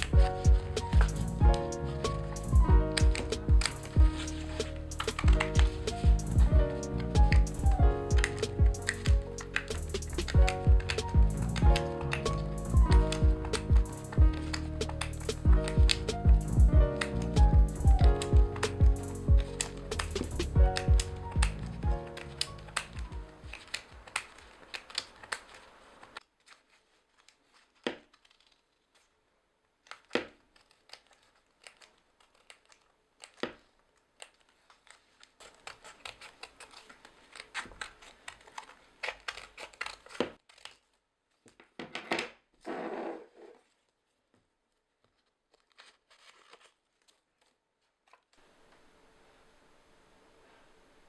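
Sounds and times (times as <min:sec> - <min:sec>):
paper rustling: 0:00.0 - 0:16.3, 0:16.9 - 0:41.8, 0:42.5 - 0:48.9
scissors snipping paper: 0:00.0 - 0:41.6, 0:45.0 - 0:48.3.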